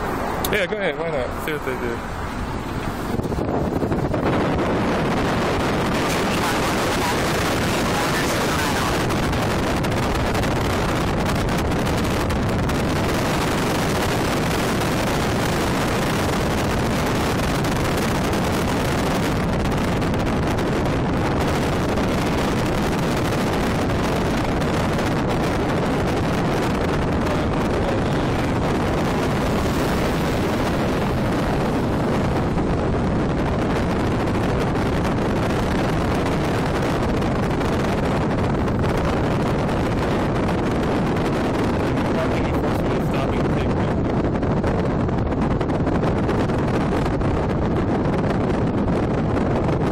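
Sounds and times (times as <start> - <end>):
car road noise: 0.0 - 49.9
wind rushing over microphone: 0.0 - 49.9.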